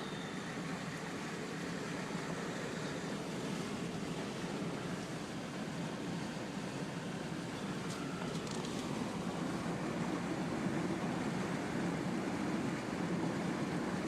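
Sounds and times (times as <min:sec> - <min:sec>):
vehicle driving through deep water: 0:00.0 - 0:14.0.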